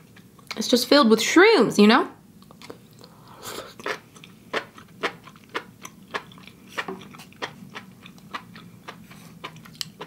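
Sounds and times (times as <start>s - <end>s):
person chewing food: 0.0s - 0.6s, 2.4s - 10.0s.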